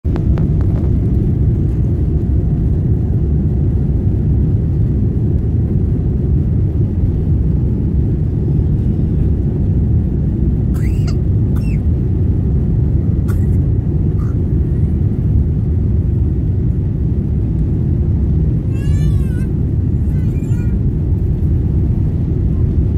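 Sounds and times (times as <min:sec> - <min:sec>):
wheels rumbling on runway: 0:00.0 - 0:22.9
jet engines roaring: 0:00.1 - 0:22.9.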